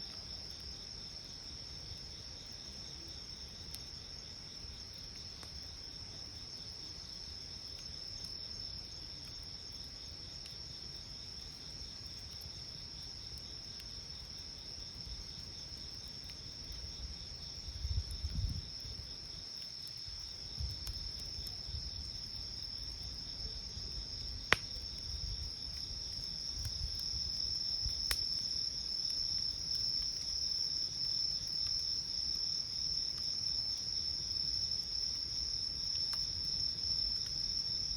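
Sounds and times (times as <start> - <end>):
campfire crackles: 0.0 - 37.9
night insects trilling: 0.0 - 37.9.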